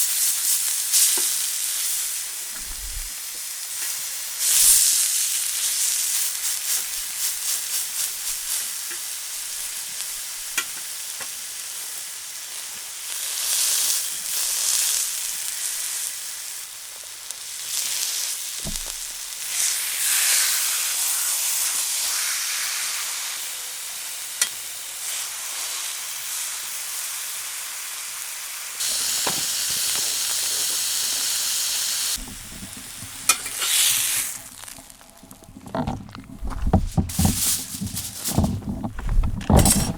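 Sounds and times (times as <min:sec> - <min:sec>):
beef sizzling in a hot pan: 0:00.0 - 0:35.6.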